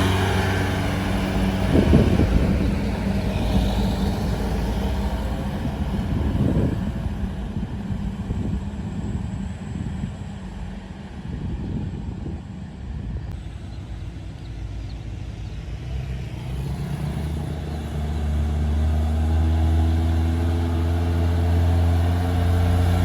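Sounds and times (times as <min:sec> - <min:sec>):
truck engine with open exhaust: 0:00.0 - 0:23.0.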